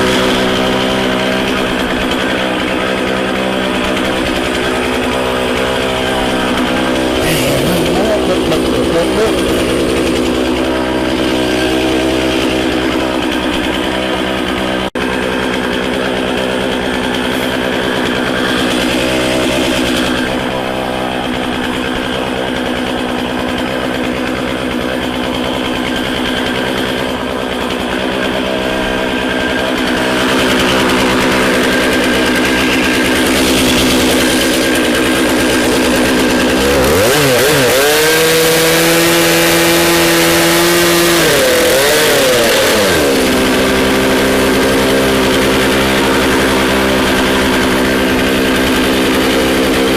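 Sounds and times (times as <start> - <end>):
chainsaw running: 0.0 - 49.9.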